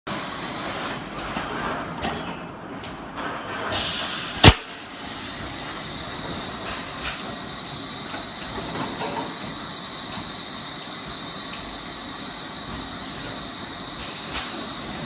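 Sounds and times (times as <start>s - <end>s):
bottle making machine running: 0.1s - 15.0s.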